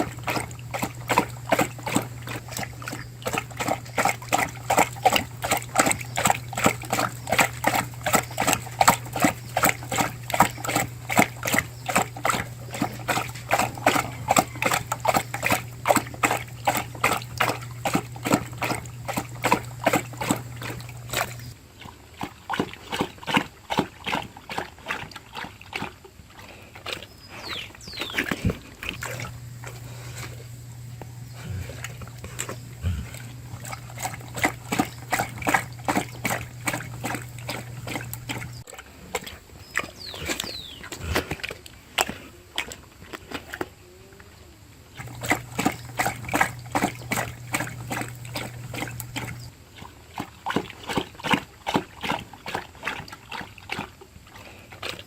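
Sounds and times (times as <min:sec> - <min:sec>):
dog lapping water: 0:00.0 - 0:43.8, 0:44.9 - 0:55.0.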